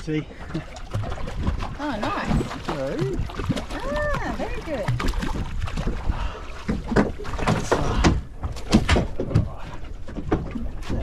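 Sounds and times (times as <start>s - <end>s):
knocks and thumps on a boat: 0.4s - 11.0s.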